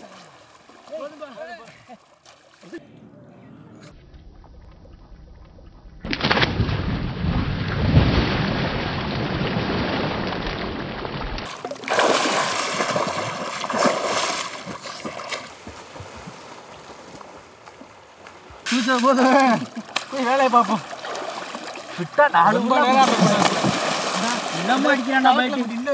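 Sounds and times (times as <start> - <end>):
people splashing into lake water: 0.0 - 2.8, 6.1 - 25.9.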